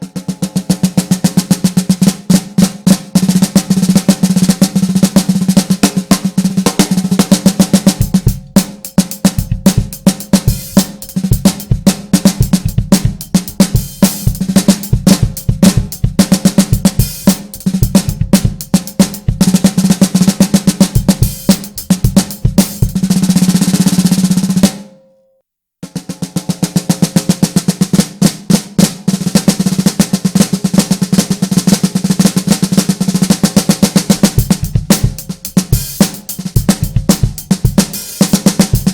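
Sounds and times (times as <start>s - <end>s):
snare drum rolls: 0.0s - 24.9s, 25.8s - 38.9s.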